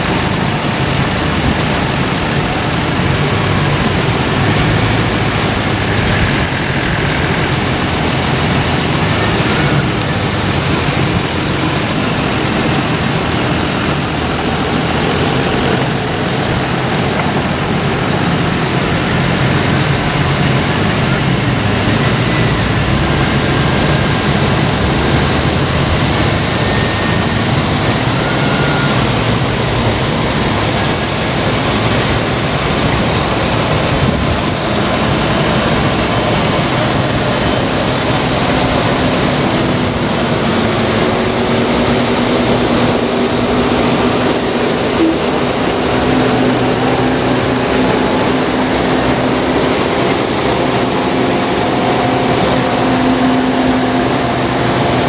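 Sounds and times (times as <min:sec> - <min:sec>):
low heavy engine drone: 0:00.0 - 0:55.0
vehicles driving past: 0:00.0 - 0:55.0.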